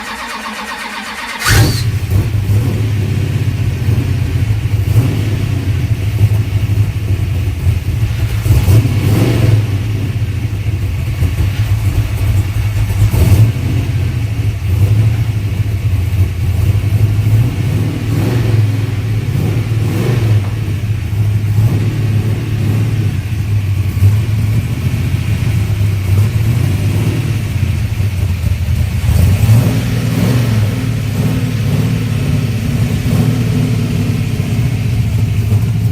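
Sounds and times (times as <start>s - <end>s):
car engine rumbling: 0.0s - 35.9s.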